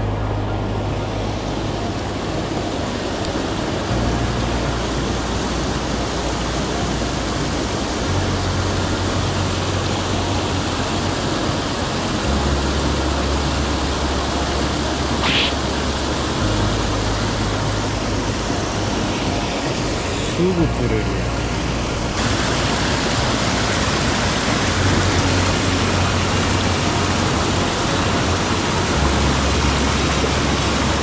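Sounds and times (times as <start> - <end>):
low sustained notes: 0.0 - 31.0
mountain stream rushing: 0.0 - 31.0.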